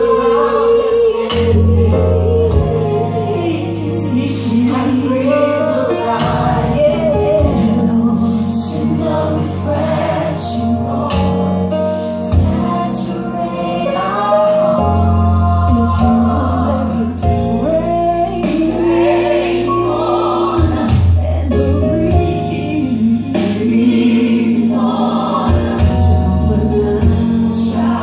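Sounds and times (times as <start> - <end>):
choir voices: 0.0 - 28.0.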